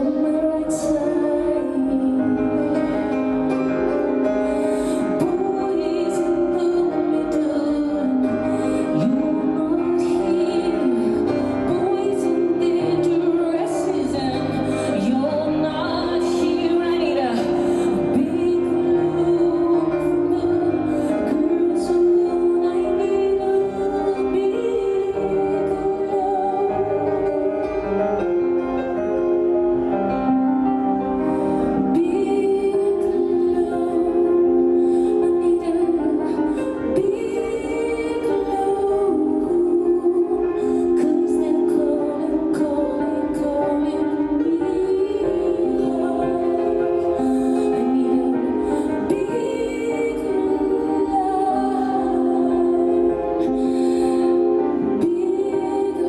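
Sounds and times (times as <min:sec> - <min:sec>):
instrumental accompaniment: 0:00.0 - 0:56.0
piano: 0:00.0 - 0:56.0
woman singing with vibrato: 0:00.0 - 0:56.0.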